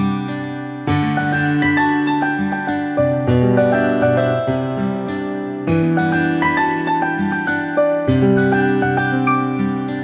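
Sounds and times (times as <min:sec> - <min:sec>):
plucked guitar-like phone melody: 0:00.0 - 0:10.0.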